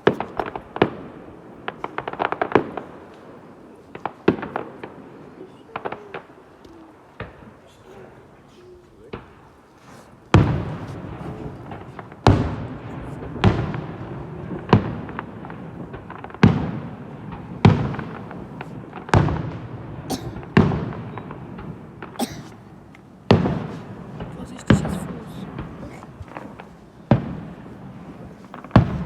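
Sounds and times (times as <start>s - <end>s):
small firework pops: 0.0s - 7.8s, 9.0s - 14.0s, 14.6s - 29.0s
fireworks bangs with echo: 0.0s - 8.2s, 9.0s - 29.0s.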